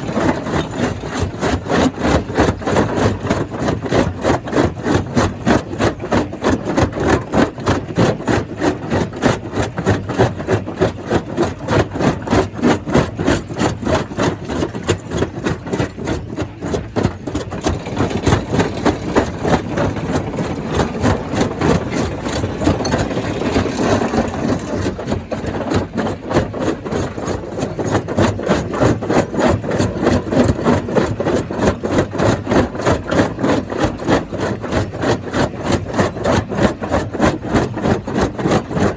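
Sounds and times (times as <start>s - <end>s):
stone crusher pounding: 0.0s - 38.9s.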